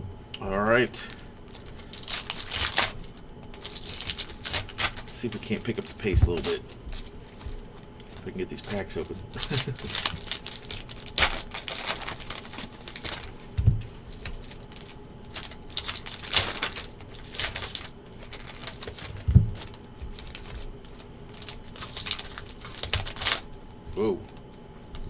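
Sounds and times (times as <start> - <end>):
card wrappers crinkling: 0.4 - 25.0.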